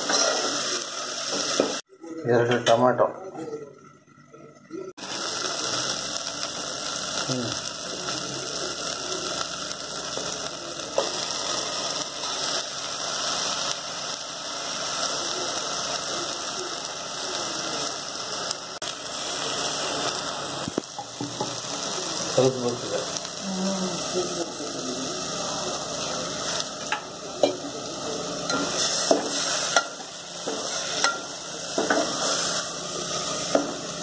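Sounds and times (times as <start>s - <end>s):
food frying with sizzle and crackle: 0.0s - 1.9s, 5.0s - 34.0s.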